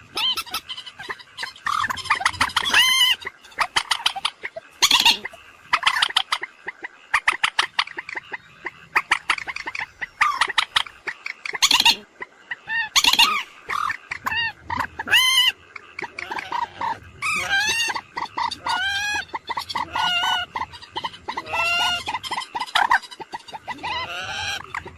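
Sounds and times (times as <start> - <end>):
moorhen calling: 0.0 - 24.9.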